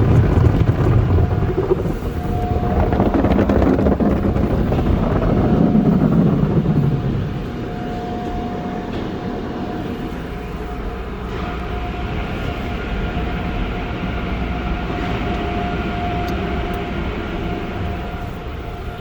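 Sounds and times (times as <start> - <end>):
car wash equipment rumbling: 0.0 - 19.0
faint whine: 0.0 - 19.0.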